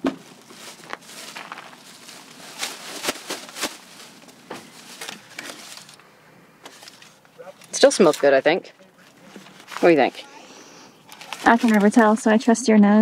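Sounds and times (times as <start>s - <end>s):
food bag rustling: 0.0s - 6.0s, 6.6s - 12.3s.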